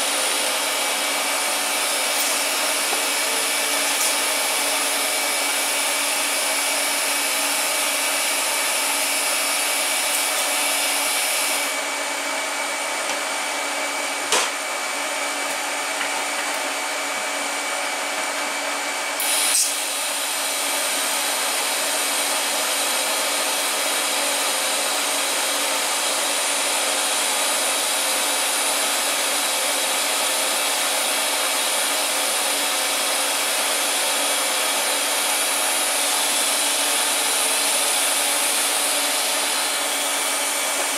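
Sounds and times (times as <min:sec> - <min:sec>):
electric blower hum: 0:00.0 - 0:40.9.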